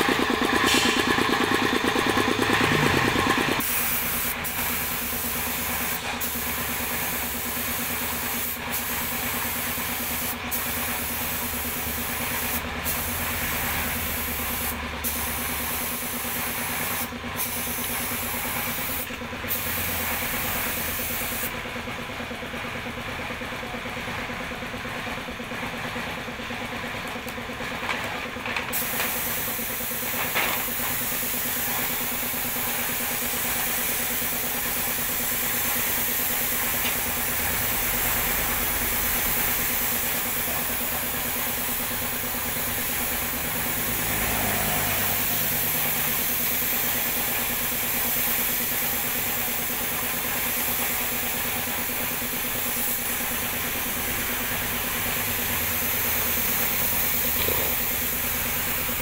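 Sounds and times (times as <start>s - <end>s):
paint spray gun hissing: 0.0s - 21.6s, 28.7s - 59.0s
air compressor running: 0.0s - 59.0s.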